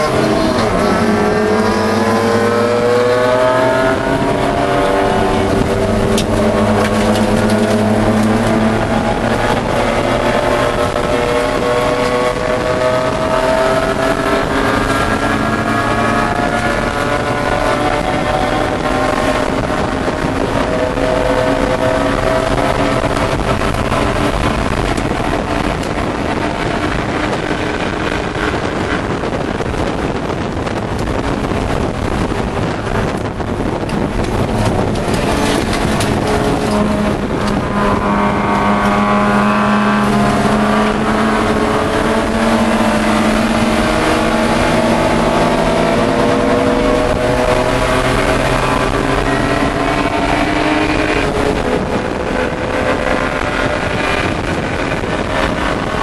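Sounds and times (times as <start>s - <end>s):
race car engine running hard: 0.0s - 56.0s
road and wind noise: 0.0s - 56.0s.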